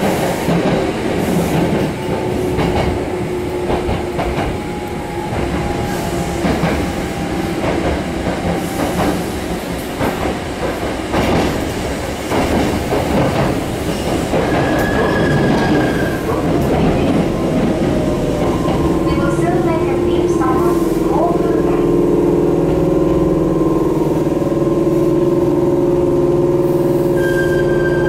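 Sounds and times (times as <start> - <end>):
train rolling noise: 0.0 - 28.0.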